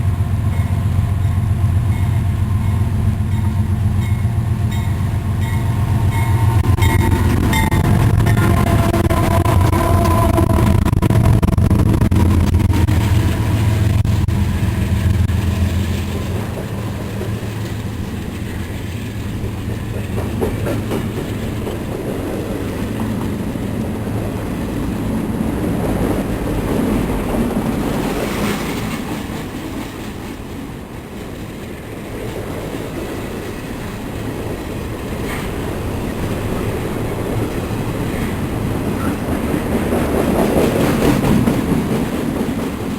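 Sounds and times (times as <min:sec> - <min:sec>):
diesel locomotive drone: 0:00.0 - 0:42.9
train wheels clacking on rails: 0:00.0 - 0:42.9.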